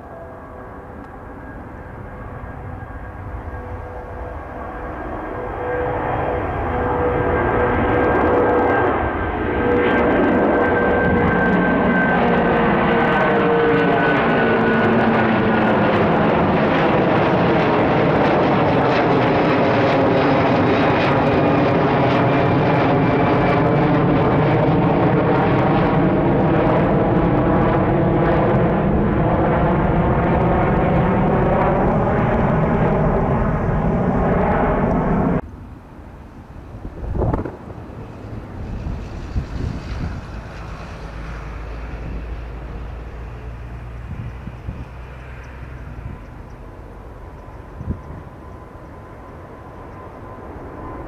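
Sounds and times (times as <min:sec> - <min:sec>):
jet airliner roaring overhead: 0:00.0 - 0:51.0.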